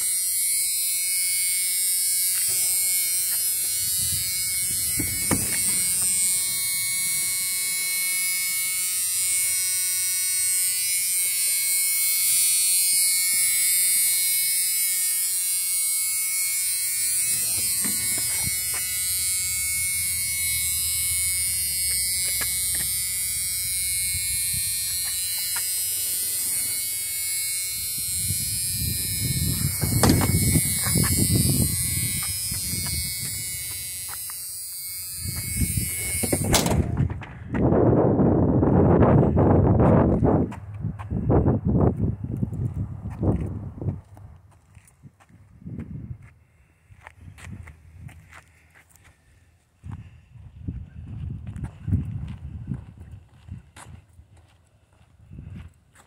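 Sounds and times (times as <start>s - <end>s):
steady electrical buzz: 0.0s - 44.9s.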